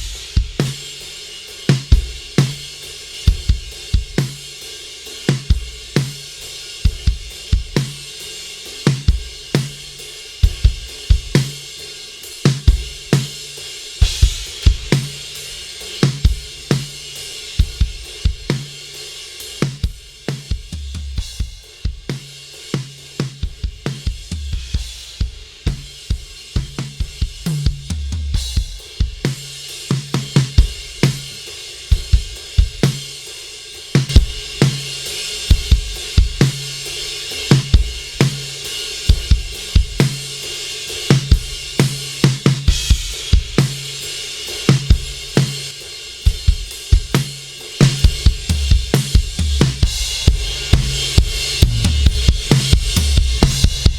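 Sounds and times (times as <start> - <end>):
drum kit groove: 0.0 - 53.9.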